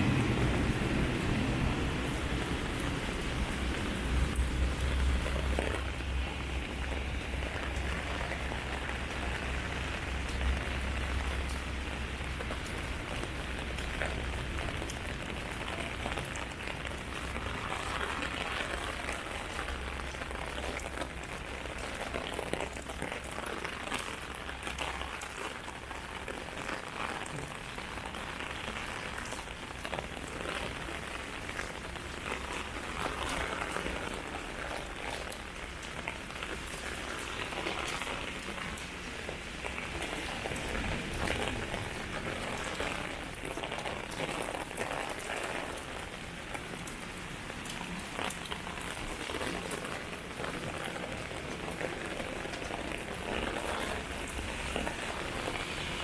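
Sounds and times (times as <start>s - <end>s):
rain drumming on umbrella: 0.0s - 56.0s
rain pattering on pavement: 0.0s - 56.0s.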